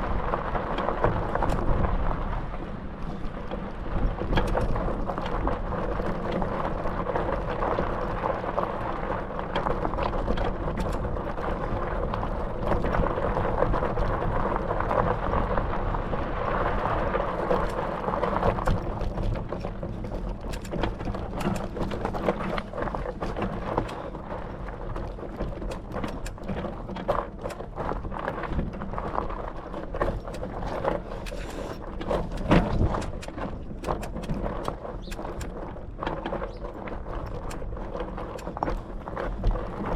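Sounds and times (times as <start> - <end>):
bicycle rattling clicks and knocks: 0.0 - 39.9
bicycle tyre noise: 0.0 - 39.9.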